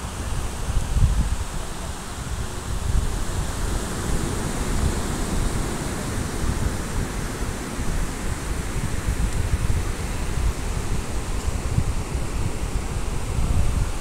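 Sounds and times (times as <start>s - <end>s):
waves on beach: 0.0s - 14.0s
wind buffeting microphone: 0.0s - 14.0s.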